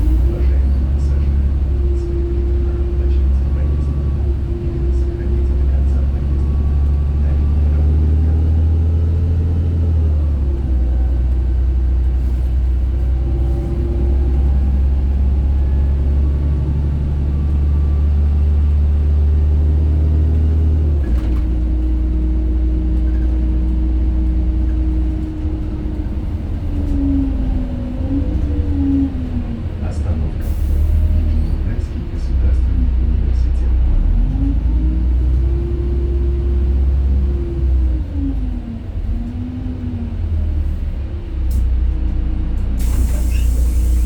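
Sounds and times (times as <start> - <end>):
bus engine rumble: 0.0 - 44.0
engine whine: 0.0 - 44.0.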